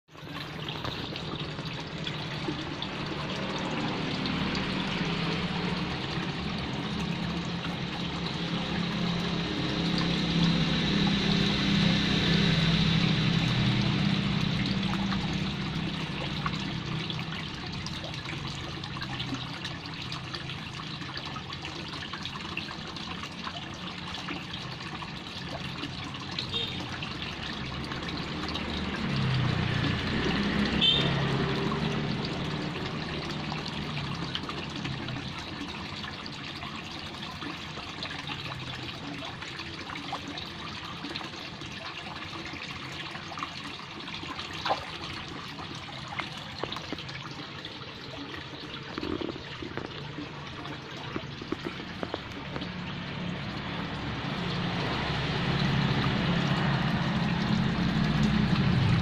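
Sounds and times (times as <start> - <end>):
water trickling in a pond: 0.0 - 59.0.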